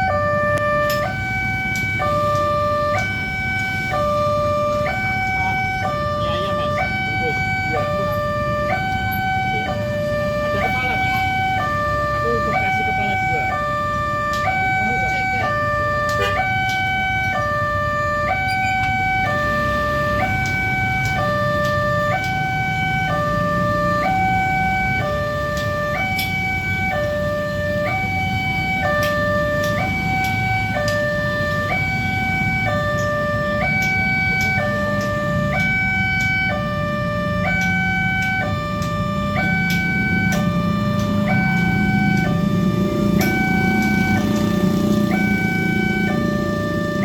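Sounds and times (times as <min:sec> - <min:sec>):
two-tone level crossing siren: 0:00.0 - 0:47.0.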